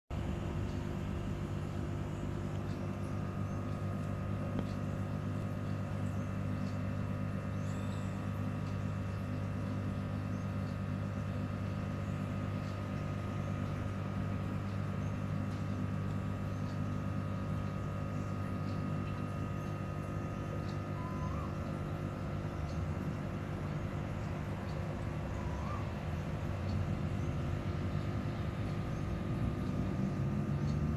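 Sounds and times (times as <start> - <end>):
aquarium pump humming: 0.1 - 30.9.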